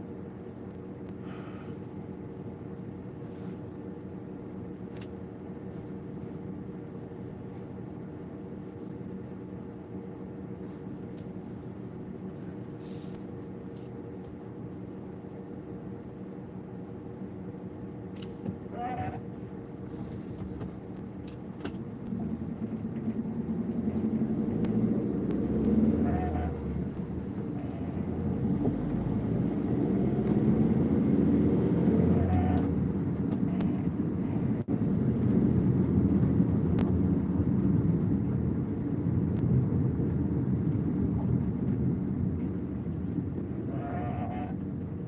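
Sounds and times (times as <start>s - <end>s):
low rumble of road traffic: 0.0s - 45.0s.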